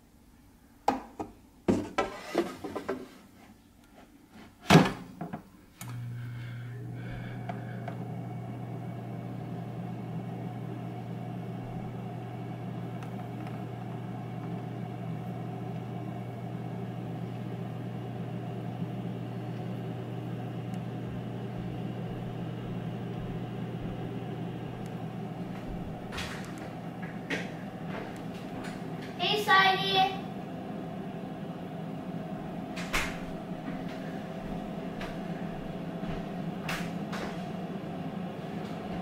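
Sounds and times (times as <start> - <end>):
air fryer fan motor hum: 5.8 - 39.0.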